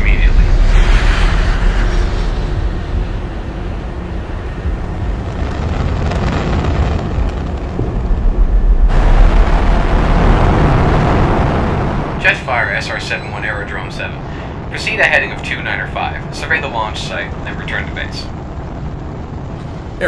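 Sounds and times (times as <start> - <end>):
jet engine rush: 0.0 - 20.0.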